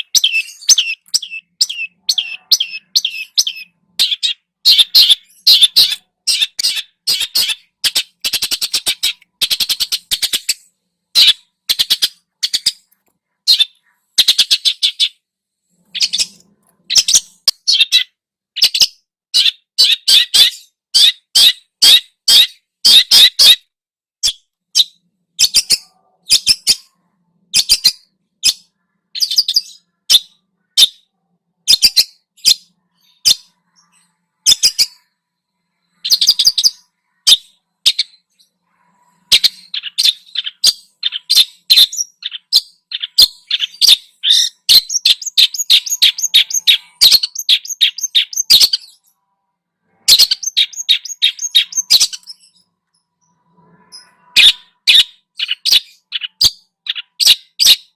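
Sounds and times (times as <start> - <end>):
songbird chirping: 0.0 - 57.9.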